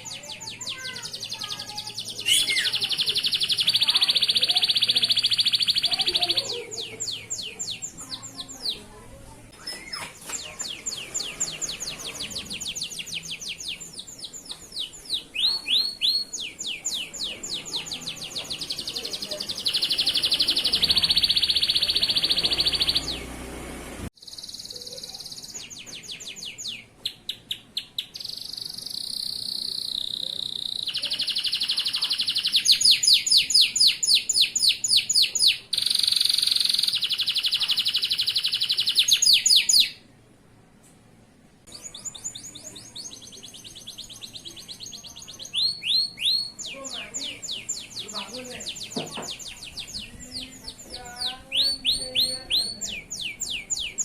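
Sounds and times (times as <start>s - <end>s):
canary singing trills: 0.0s - 23.6s, 24.2s - 40.0s, 41.7s - 54.0s.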